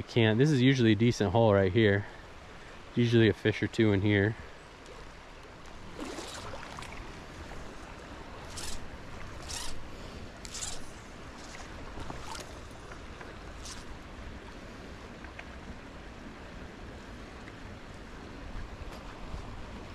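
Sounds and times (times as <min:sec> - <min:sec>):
small stream running: 0:00.0 - 0:19.9.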